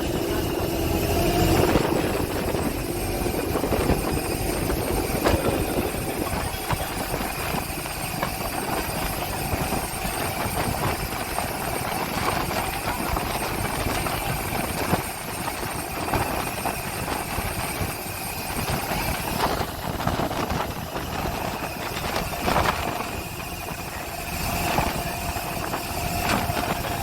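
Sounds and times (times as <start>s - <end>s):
motor engine running: 0.0s - 27.0s.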